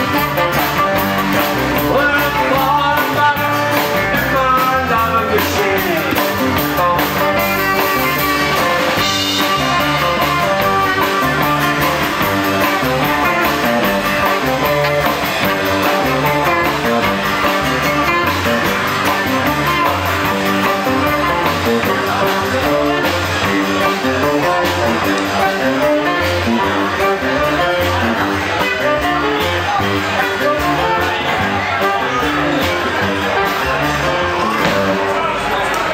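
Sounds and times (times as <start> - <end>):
rockabilly band playing live: 0.0 - 35.9.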